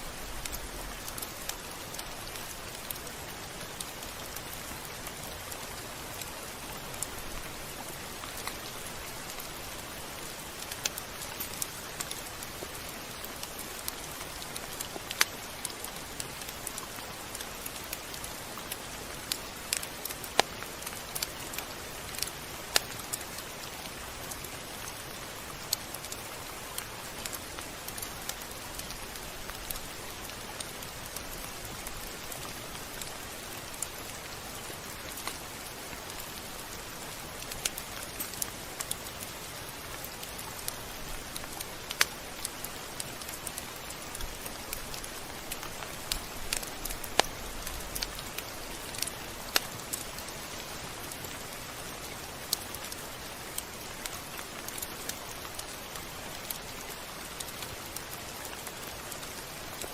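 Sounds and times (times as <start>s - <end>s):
steady rain falling: 0.0s - 59.9s
drops dripping on a surface: 10.2s - 51.4s, 52.0s - 59.9s.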